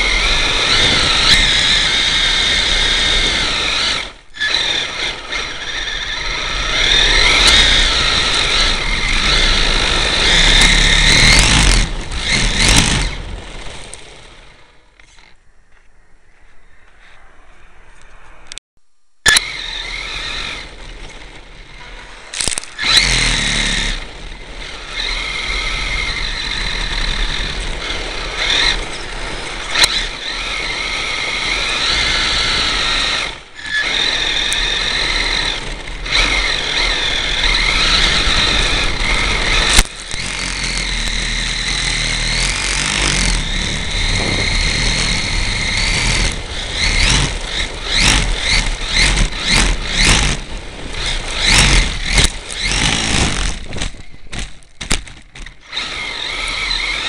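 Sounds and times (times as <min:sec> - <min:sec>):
electric motor whining: 0:00.0 - 0:15.4, 0:19.3 - 0:57.0
tyres rumbling on ground: 0:00.0 - 0:15.8, 0:19.6 - 0:57.0.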